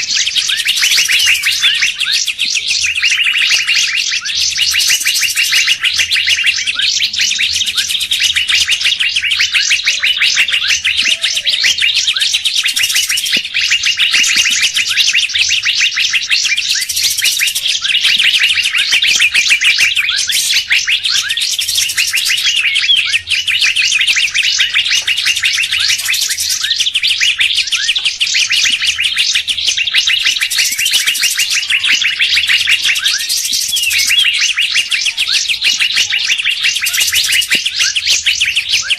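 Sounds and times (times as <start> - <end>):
shrill bird call bursts: 0.0 - 38.9
songbirds chirping and chattering: 0.0 - 38.9.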